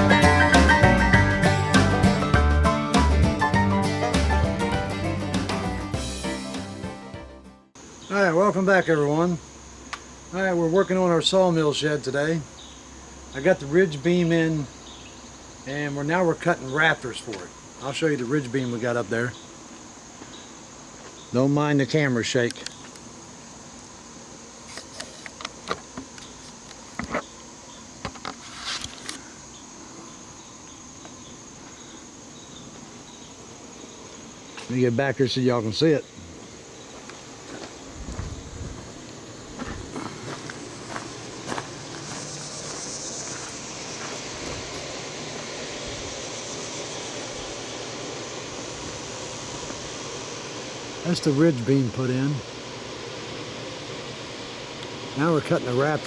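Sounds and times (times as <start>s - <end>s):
high-pitched insect buzzing: 0.0s - 7.0s, 7.8s - 56.0s
crickets chirring: 0.0s - 7.1s, 7.7s - 56.0s.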